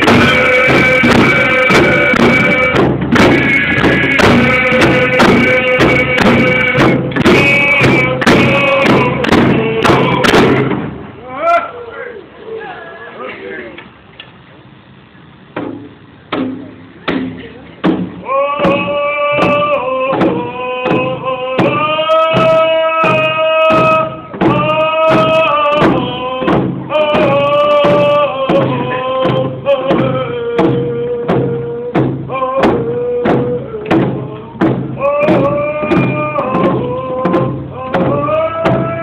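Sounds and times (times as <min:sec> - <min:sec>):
group singing long held notes: 0:00.0 - 0:10.9, 0:18.2 - 0:39.0
frame drum beat: 0:00.0 - 0:11.0, 0:15.6 - 0:39.0.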